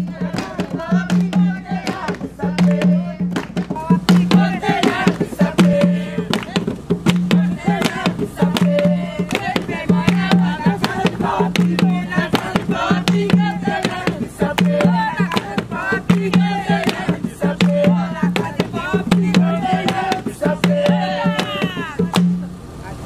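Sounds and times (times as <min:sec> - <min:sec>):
group of voices singing: 0:00.0 - 0:22.2
hand drums: 0:00.0 - 0:22.5.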